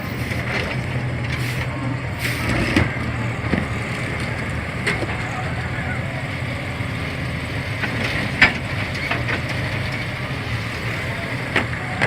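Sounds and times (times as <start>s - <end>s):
garbage truck engine running: 0.0s - 12.0s.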